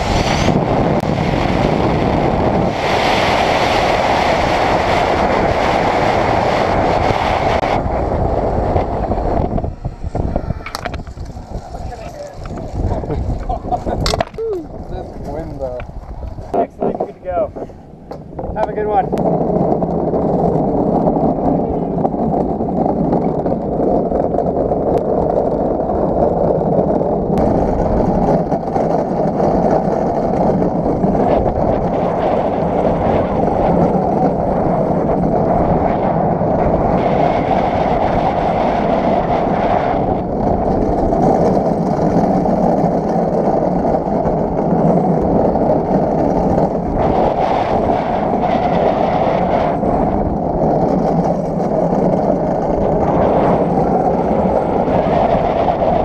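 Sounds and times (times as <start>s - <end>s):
sled wheels rolling on concrete: 0.0s - 56.0s.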